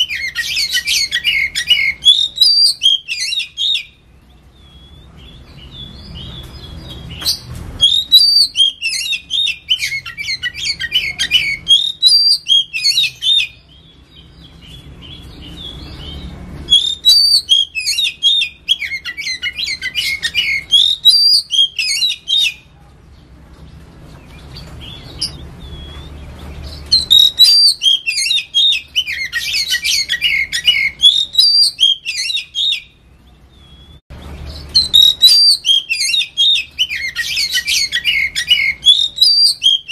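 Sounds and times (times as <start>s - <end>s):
bird singing whistled phrases: 0.0s - 22.7s, 26.8s - 39.9s.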